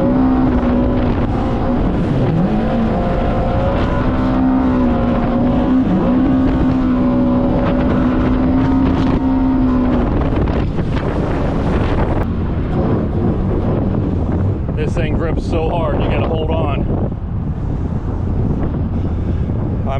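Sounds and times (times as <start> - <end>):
personal watercraft engine whining: 0.0 - 19.9
rush of wind and water: 0.0 - 19.9.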